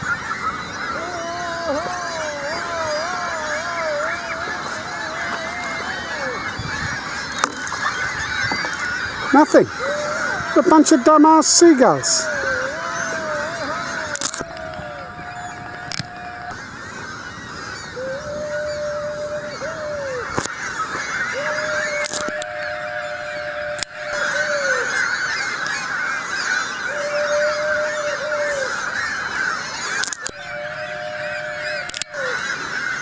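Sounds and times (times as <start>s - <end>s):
seagulls calling: 0.0s - 33.0s.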